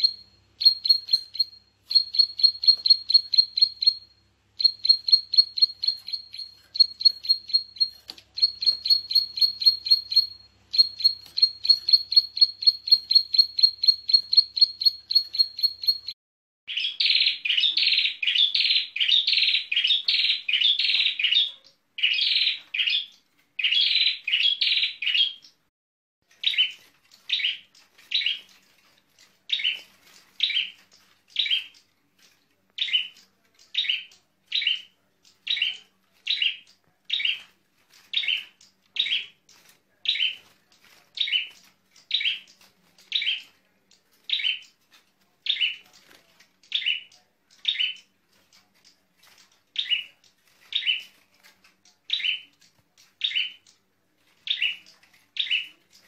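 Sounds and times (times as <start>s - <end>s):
bird chirping: 0.0s - 25.7s, 26.3s - 32.0s, 32.7s - 56.0s.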